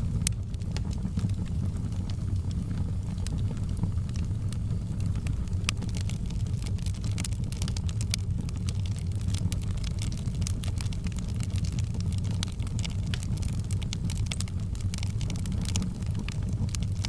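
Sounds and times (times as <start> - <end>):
fire crackling and popping: 0.0 - 17.0
fire roaring in a fireplace: 0.0 - 17.0.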